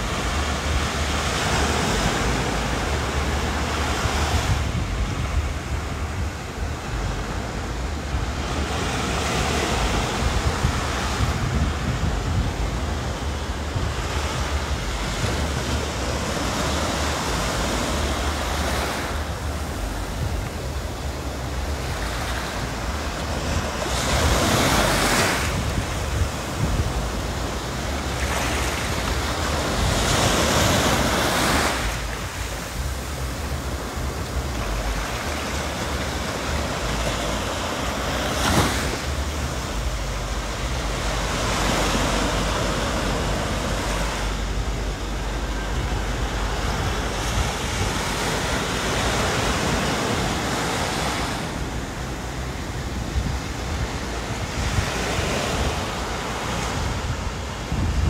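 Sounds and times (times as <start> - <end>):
small waves breaking on beach: 0.0 - 58.0.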